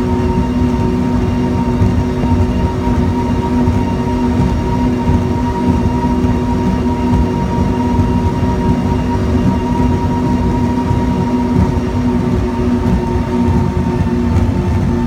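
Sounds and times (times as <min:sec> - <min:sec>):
hull and wind rush: 0:00.0 - 0:15.0
powerboat engines droning: 0:00.0 - 0:15.0.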